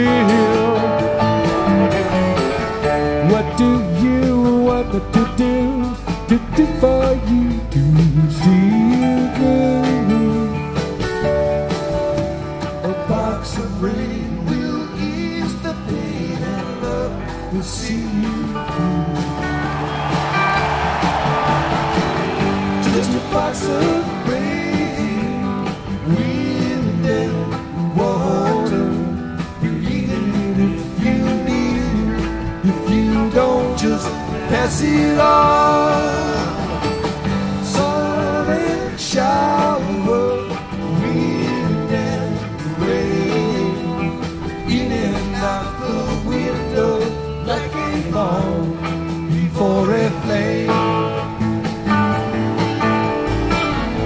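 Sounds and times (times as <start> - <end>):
person singing: 0.0 - 11.5, 12.6 - 52.7
rock band playing live: 0.0 - 54.0.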